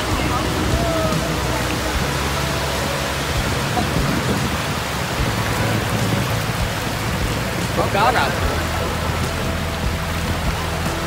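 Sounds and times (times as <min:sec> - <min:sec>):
sea surf on a beach: 0:00.0 - 0:11.0
wind on the microphone: 0:00.0 - 0:11.0.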